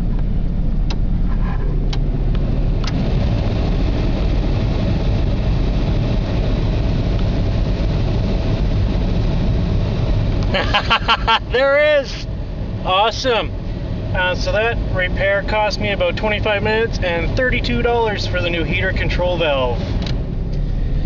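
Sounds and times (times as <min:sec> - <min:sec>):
van engine idling: 0:00.0 - 0:21.0
heater blower air rush: 0:00.2 - 0:21.0.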